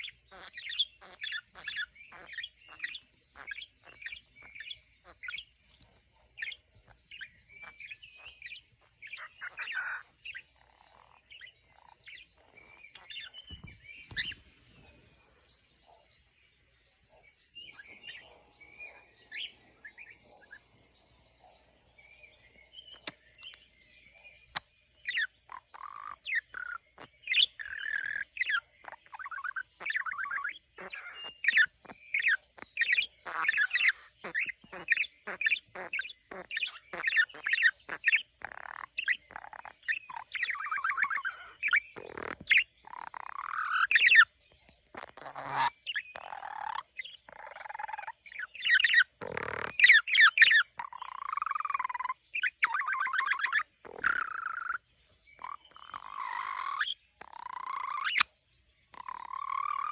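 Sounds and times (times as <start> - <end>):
budgerigar warbling and chattering: 0.0 - 15.0, 17.2 - 59.9.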